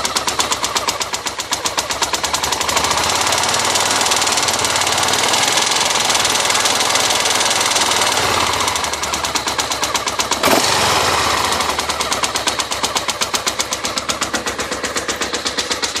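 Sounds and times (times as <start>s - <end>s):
engine knocking clatter: 0.0s - 16.0s.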